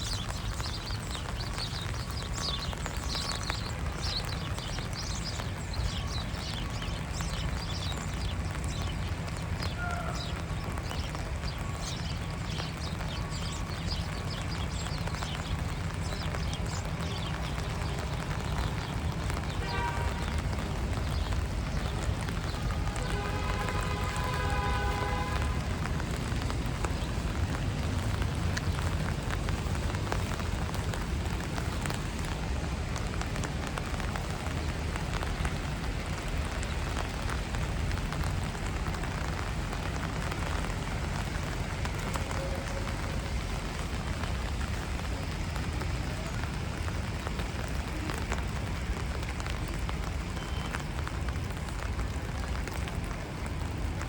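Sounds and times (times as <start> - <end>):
constant low rumble: 0.0 - 54.0
rain patter on street: 0.0 - 54.0.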